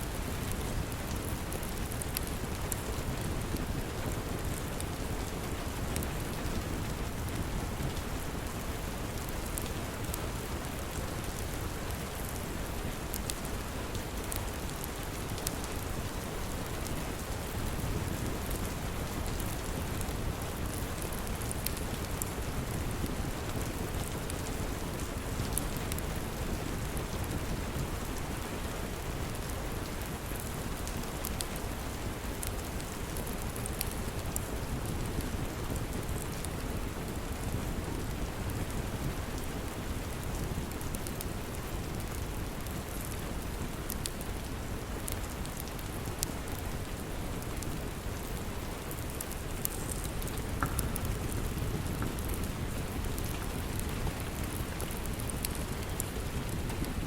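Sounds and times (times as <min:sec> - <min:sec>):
log fire crackling: 0:00.0 - 0:57.0
steady rain: 0:00.0 - 0:57.0.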